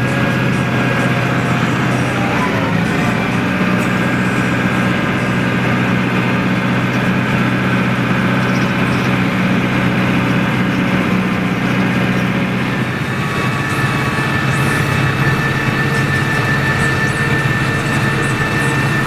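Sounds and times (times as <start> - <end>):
vehicle engine under load: 0.0 - 19.0.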